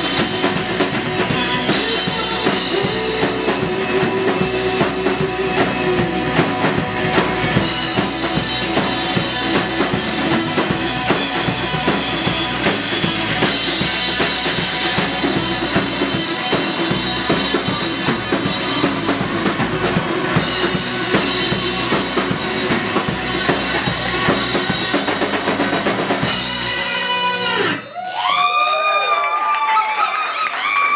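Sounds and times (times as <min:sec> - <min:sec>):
drum kit with snare and rimshots: 0:00.0 - 0:27.8
rock band playing live: 0:00.0 - 0:28.0.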